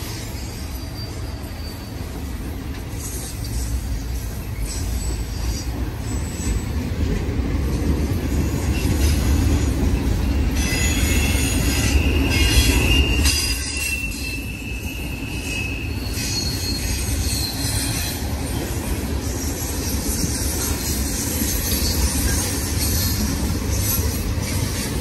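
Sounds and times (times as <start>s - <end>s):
steel wheels squealing on rails: 0.0s - 25.0s
train rolling past: 0.0s - 25.0s.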